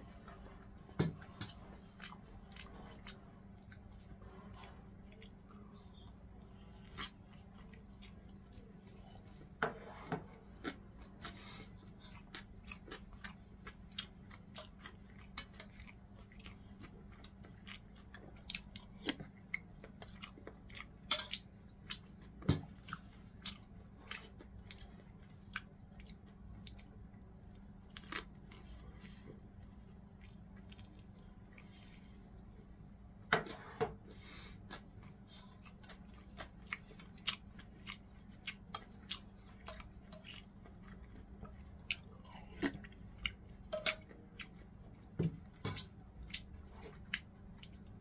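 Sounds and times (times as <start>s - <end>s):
steady low hum: 0.0s - 48.0s
person chewing with wet clicks: 0.2s - 9.6s, 10.3s - 33.3s, 34.6s - 48.0s.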